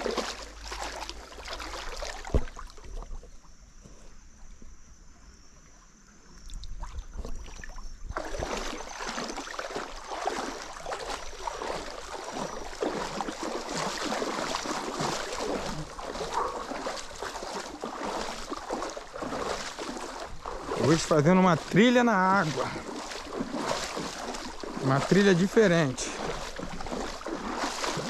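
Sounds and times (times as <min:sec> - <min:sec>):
splashing water while wading: 0:00.0 - 0:03.3, 0:06.5 - 0:28.0.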